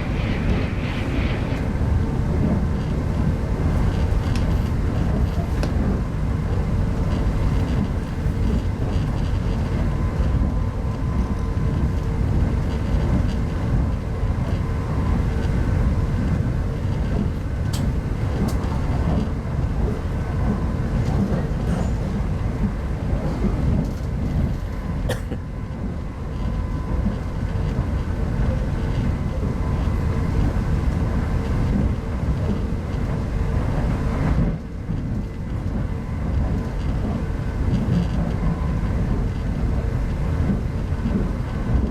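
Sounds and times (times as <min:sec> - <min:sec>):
train coach rumbling along: 0:00.0 - 0:41.9.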